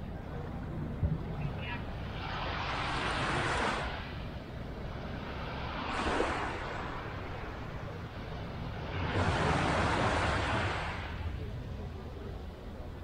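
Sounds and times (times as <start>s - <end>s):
wind rumble on microphone: 0.0s - 13.0s
small waves washing on sand: 1.1s - 13.0s.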